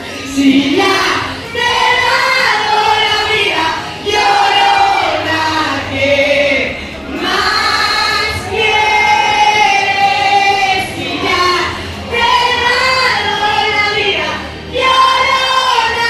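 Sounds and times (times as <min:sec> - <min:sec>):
woman singing into microphone: 0:00.0 - 0:16.0.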